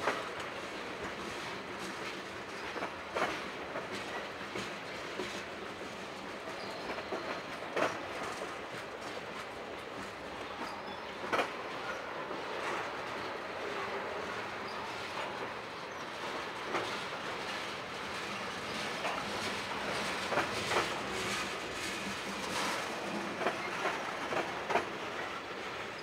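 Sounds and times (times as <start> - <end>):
train wheels rumbling on rail: 0.0 - 26.0
wheels clacking on rail joint: 0.0 - 26.0.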